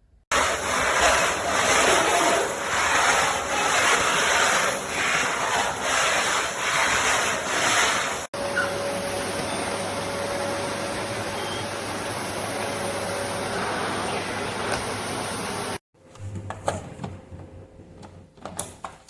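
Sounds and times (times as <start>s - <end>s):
vacuum cleaner running: 0.3s - 18.2s.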